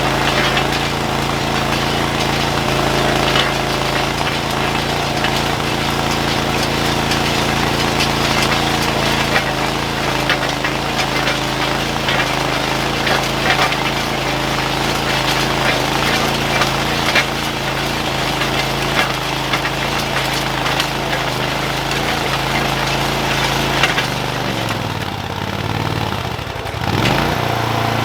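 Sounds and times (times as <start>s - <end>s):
clatter and knocks: 0.0s - 27.3s
machine engine running: 0.0s - 28.0s.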